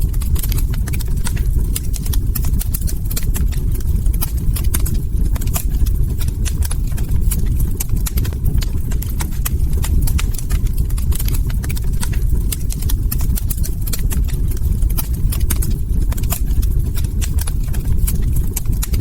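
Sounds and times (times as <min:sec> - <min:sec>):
low rumble of flames: 0:00.0 - 0:19.0
wood fire popping and snapping: 0:00.0 - 0:19.0.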